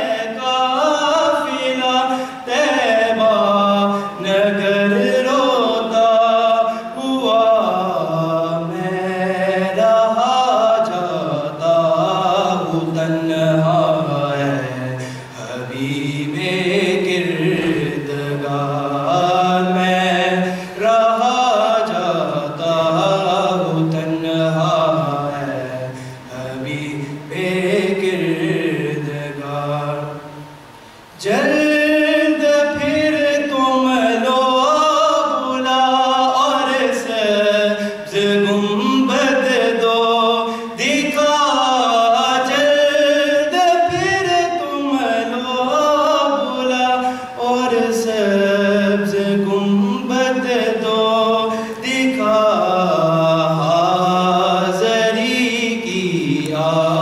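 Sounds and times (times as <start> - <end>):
man singing into microphone: 0.0 - 30.3, 31.2 - 57.0.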